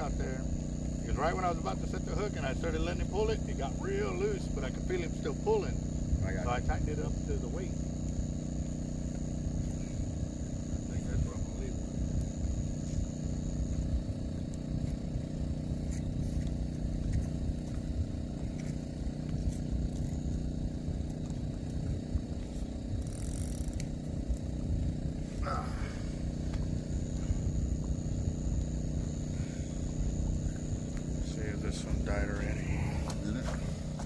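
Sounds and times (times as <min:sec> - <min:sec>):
motor-like hum: 0:00.0 - 0:34.0
thin high-pitched whine: 0:00.0 - 0:34.0.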